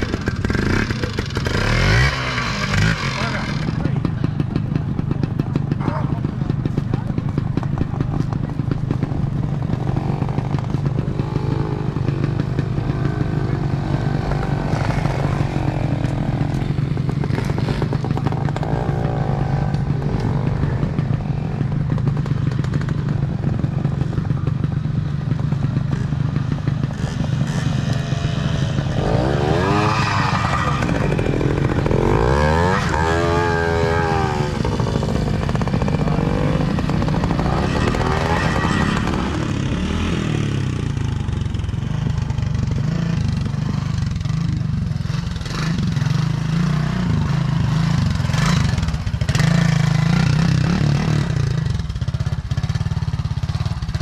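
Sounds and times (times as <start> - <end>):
motorcycle engines chugging: 0.0 - 54.0.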